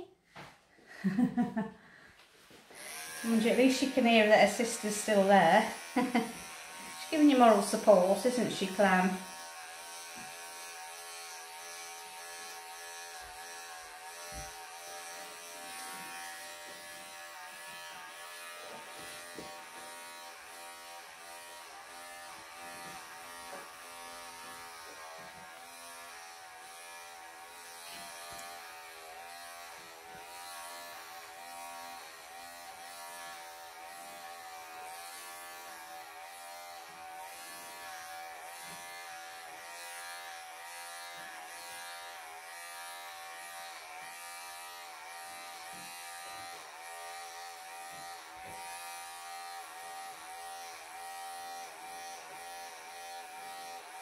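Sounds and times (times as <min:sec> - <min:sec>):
electric clippers buzzing: 0:02.7 - 0:54.0.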